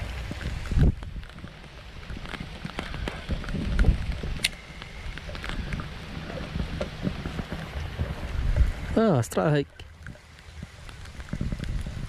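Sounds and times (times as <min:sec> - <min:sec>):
wind buffeting microphone: 0:00.0 - 0:09.4, 0:10.1 - 0:12.0.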